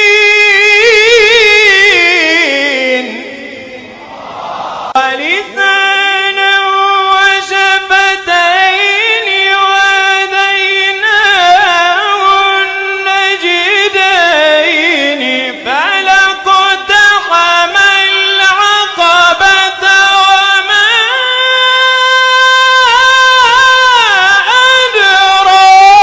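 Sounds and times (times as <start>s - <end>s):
solo voice chanting: 4.9s - 26.0s.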